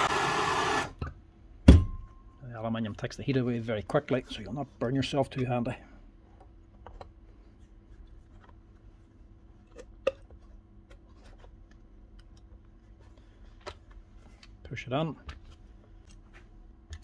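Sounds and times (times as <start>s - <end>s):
faint steady hum: 0.8s - 17.0s.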